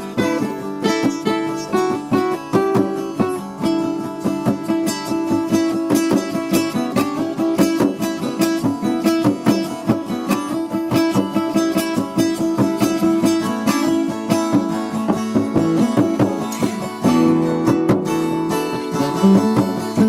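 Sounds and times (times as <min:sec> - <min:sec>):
acoustic guitars playing: 0:00.0 - 0:20.0.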